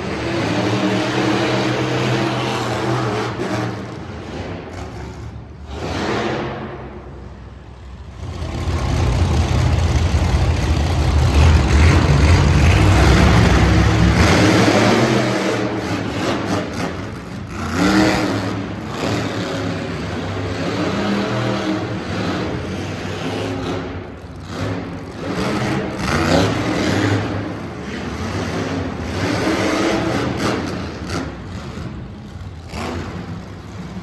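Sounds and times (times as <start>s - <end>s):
truck engine revving hard: 0.0s - 7.2s, 8.0s - 34.0s.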